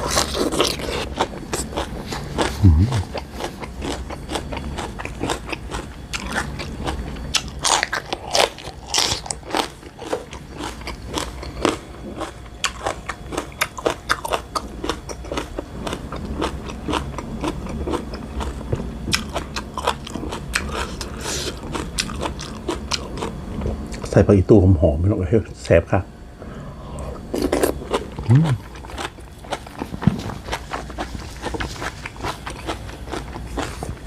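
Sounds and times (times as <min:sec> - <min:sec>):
crunching vegetables: 0:00.0 - 0:24.1, 0:27.3 - 0:34.0.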